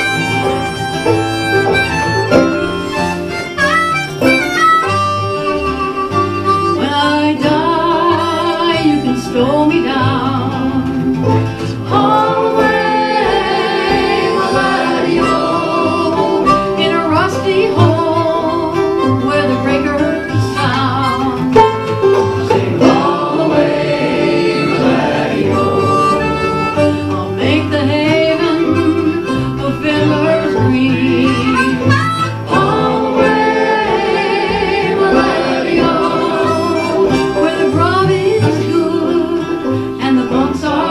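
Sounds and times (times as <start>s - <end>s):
acoustic folk music: 0.0s - 40.9s
guitar accompaniment: 0.0s - 40.9s.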